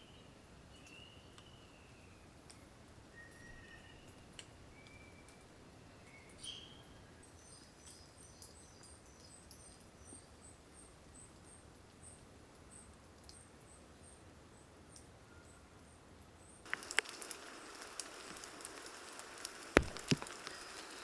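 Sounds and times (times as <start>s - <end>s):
soft steady hiss: 0.0s - 21.0s.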